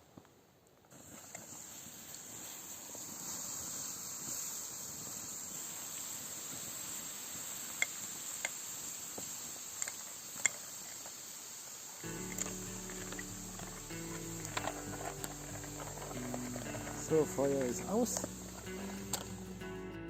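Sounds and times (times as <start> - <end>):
embers hissing: 0.9 - 20.0.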